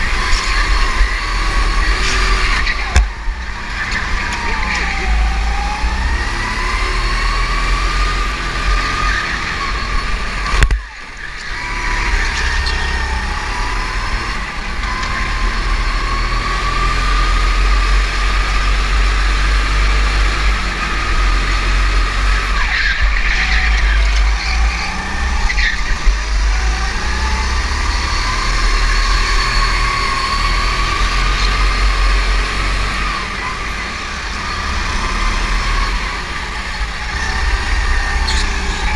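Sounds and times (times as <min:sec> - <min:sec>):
go-kart motor: 0:00.0 - 0:38.9
low rumble of vibration and wind: 0:00.0 - 0:38.9.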